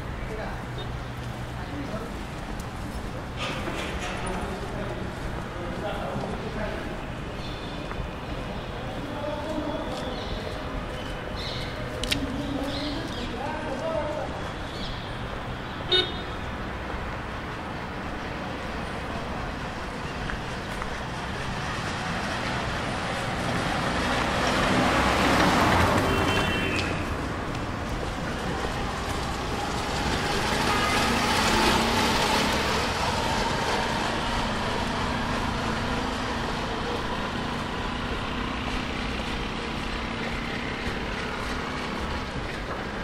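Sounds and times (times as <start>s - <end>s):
street traffic engines: 0.0s - 43.0s
vehicles passing close by: 0.0s - 43.0s.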